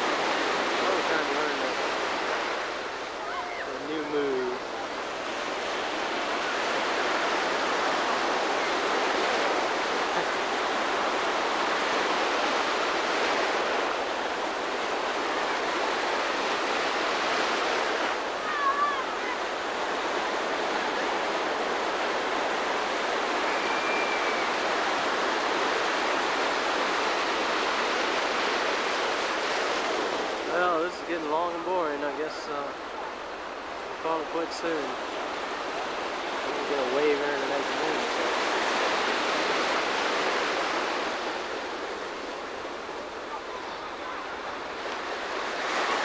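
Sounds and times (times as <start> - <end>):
ocean surf breaking: 0.0 - 46.0.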